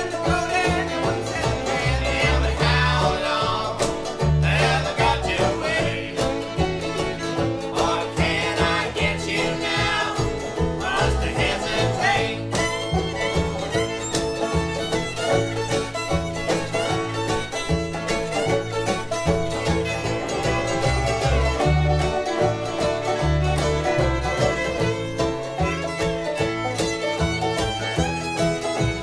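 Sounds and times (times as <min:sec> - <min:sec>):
bluegrass banjo and guitar music: 0:00.0 - 0:29.0.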